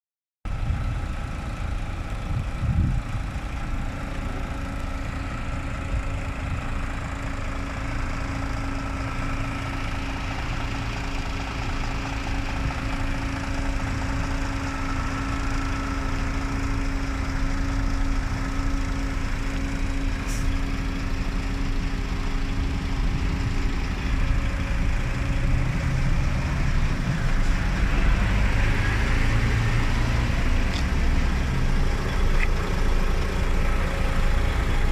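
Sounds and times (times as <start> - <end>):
engine knock: 0.5 - 28.7
diesel truck engine idling: 0.5 - 34.9.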